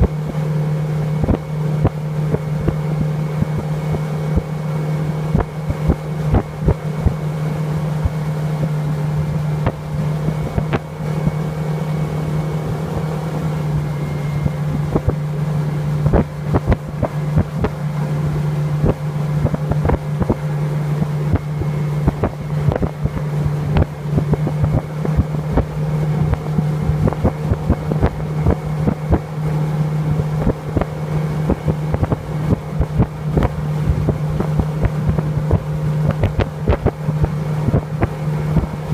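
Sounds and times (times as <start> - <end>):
motorboat engine running: 0.0 - 38.9.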